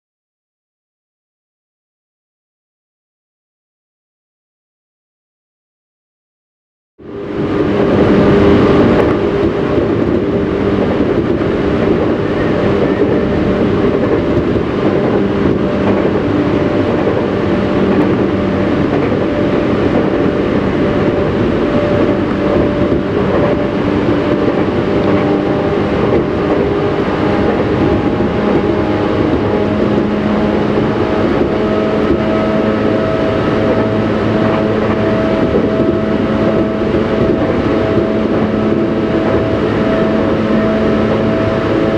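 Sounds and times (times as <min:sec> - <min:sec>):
traction motor tones: 0:07.0 - 0:41.9
train wheels rumbling on rail: 0:07.0 - 0:41.9.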